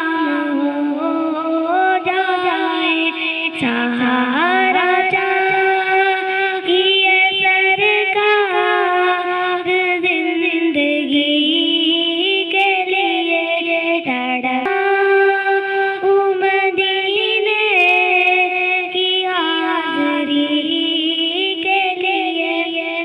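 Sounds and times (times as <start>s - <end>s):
girl singing devotional poem: 0.0s - 23.0s.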